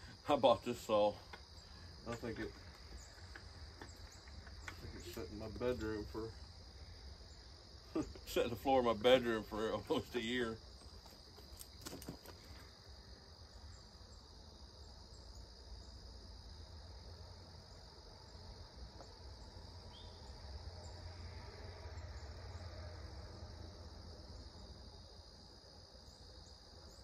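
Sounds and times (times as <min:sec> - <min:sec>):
insect chorus drone: 0:00.0 - 0:27.0.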